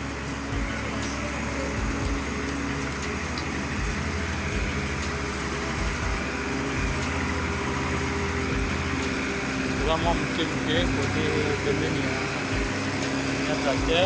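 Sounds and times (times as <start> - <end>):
grader diesel engine running: 0.0 - 14.0
street noise: 0.0 - 14.0.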